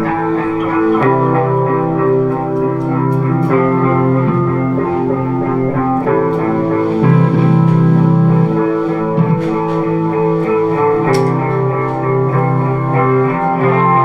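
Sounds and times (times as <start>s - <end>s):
bass guitar line: 0.0s - 14.0s
electric guitars sustained chords: 0.0s - 14.0s.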